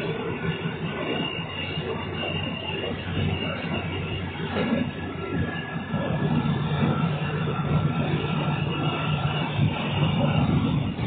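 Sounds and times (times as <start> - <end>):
railcar engine and wheels rumbling: 0.0 - 11.0.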